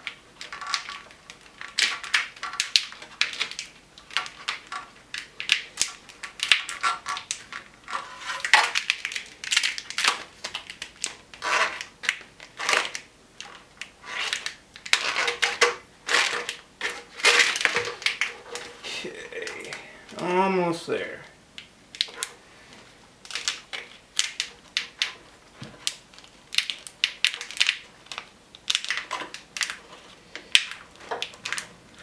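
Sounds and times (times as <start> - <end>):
plastic tubing crackling and rattling: 0.0 - 20.4, 21.3 - 32.0.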